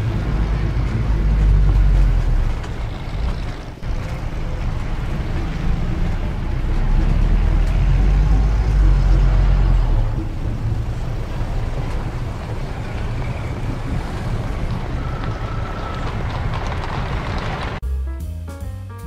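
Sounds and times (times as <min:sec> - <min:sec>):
street traffic rumbling: 0:00.0 - 0:17.8
tram passing: 0:00.0 - 0:17.8.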